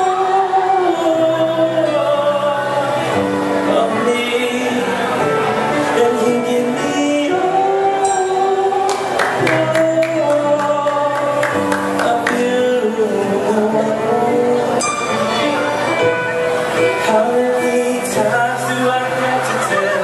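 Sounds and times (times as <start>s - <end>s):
pop song over sound system: 0.0s - 20.0s.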